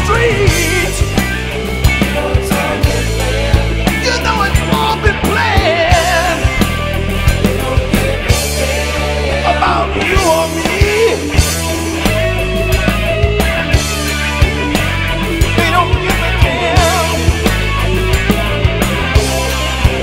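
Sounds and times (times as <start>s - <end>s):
bass: 0.0s - 20.0s
bending lead melody: 0.0s - 20.0s
funk rock song: 0.0s - 20.0s
steady drum beat: 0.0s - 20.0s.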